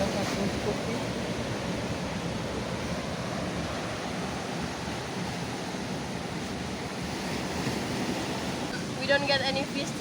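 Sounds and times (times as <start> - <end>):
surf on rocky shore: 0.0 - 10.0.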